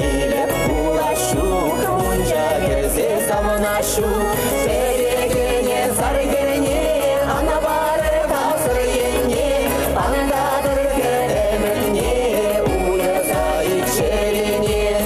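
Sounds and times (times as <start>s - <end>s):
man and woman singing duet: 0.0s - 15.0s
pop backing track with beat: 0.0s - 15.0s.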